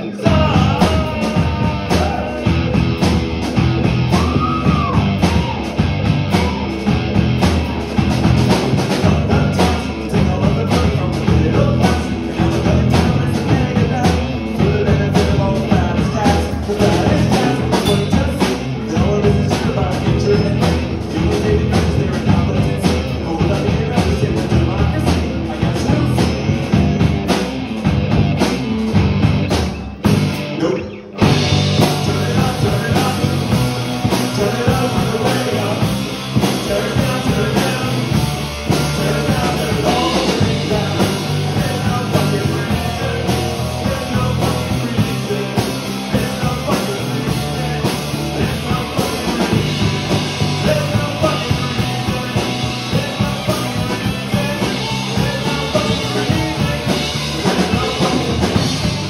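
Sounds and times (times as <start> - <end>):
steady drum beat: 0.0 - 30.6, 31.2 - 59.0
live rock band playing: 0.0 - 59.0.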